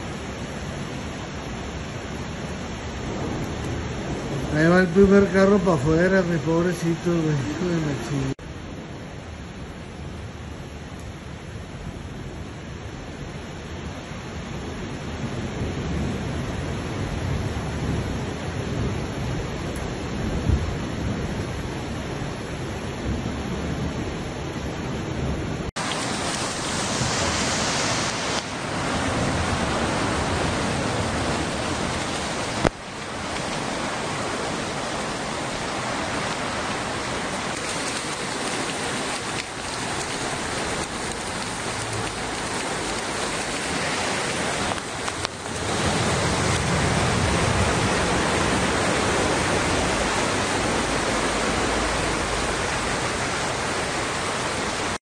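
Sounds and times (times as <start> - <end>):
floodwater rushing: 0.0 - 23.6, 25.5 - 55.0
heavy rain: 0.0 - 55.0.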